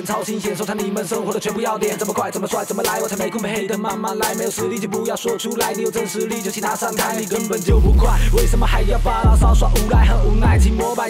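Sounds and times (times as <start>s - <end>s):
hip hop beat with bass line: 0.0s - 11.0s
man rapping fast: 0.0s - 11.0s.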